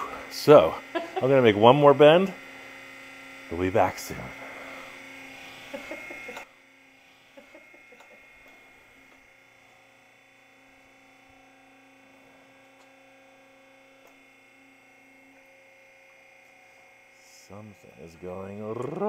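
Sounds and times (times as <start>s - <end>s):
faint electric hum: 0.0s - 19.0s.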